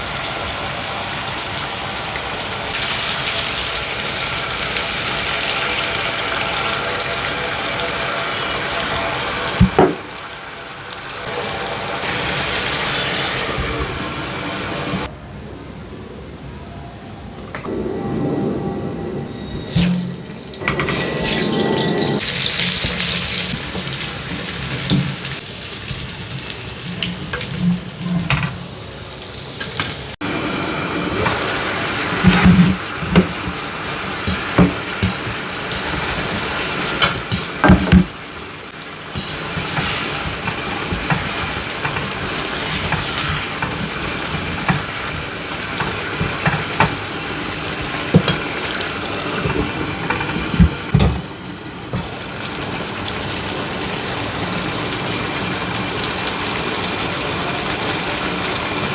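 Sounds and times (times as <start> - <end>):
hiss of frying: 0.0 - 15.1, 19.7 - 58.9.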